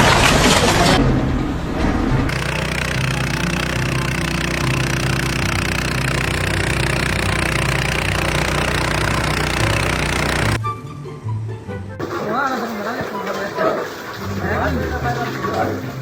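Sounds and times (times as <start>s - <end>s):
loud machine noise: 0.0s - 10.6s, 12.0s - 16.0s
engine running: 0.0s - 10.7s, 11.3s - 16.0s.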